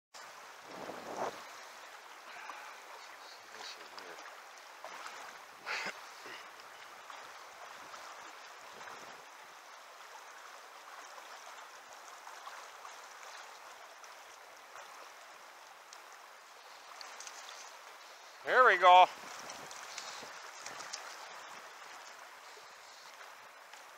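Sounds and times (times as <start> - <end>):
shallow river rushing: 0.2 - 23.9.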